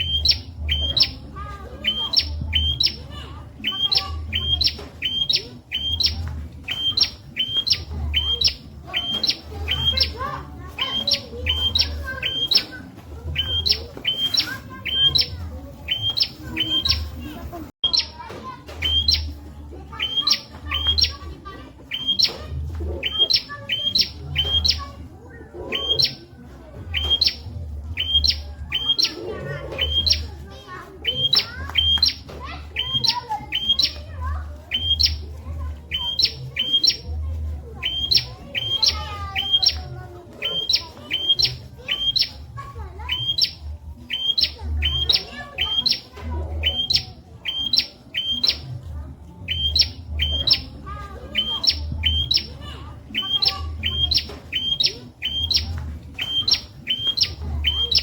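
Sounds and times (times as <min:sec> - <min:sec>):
bird sharp high chirps: 0:00.0 - 0:58.0.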